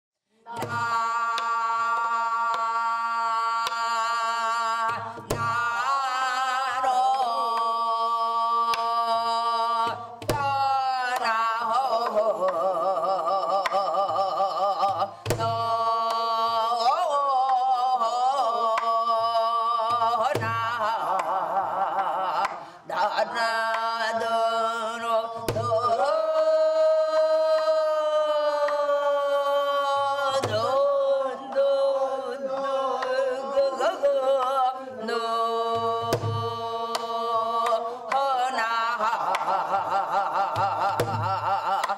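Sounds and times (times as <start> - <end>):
woman singing with vibrato: 0.4 - 41.9.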